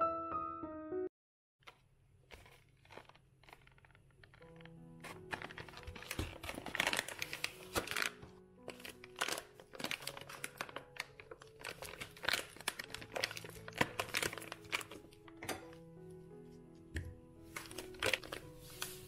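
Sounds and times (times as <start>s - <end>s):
paper bag crinkling: 1.6s - 15.8s, 17.4s - 19.0s
soft background music: 3.6s - 19.0s.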